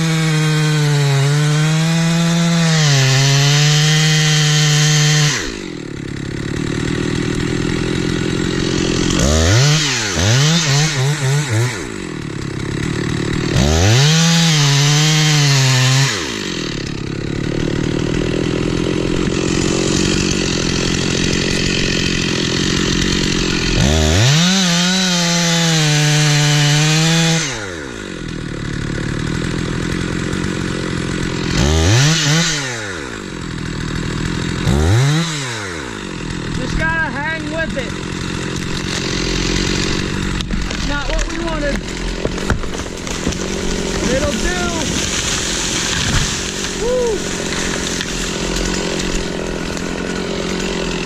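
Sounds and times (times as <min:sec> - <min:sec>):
chainsaw throttle blips: 0:00.0 - 0:51.0
two-stroke chainsaw idling: 0:00.0 - 0:51.0.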